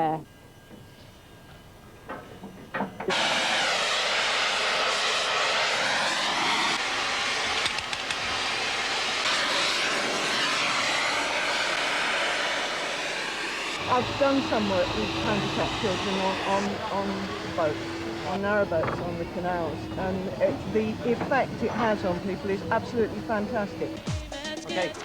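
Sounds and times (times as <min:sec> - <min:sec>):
loud rushing roar: 0:03.1 - 0:24.0.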